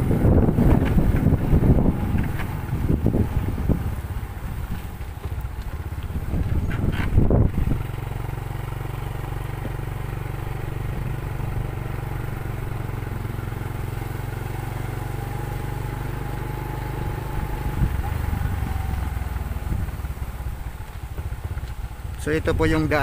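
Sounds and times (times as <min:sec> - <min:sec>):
vehicle engine running: 0:00.0 - 0:23.0
wind and road noise: 0:00.0 - 0:23.0.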